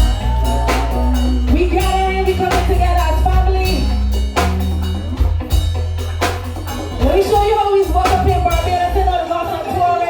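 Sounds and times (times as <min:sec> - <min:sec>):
live soca music through a pa: 0:00.0 - 0:10.0.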